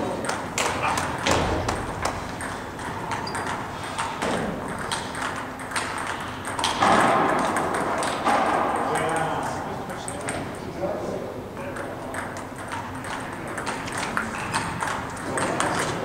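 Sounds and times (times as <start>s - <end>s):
table tennis balls clicking: 0.0s - 10.5s, 11.6s - 16.0s.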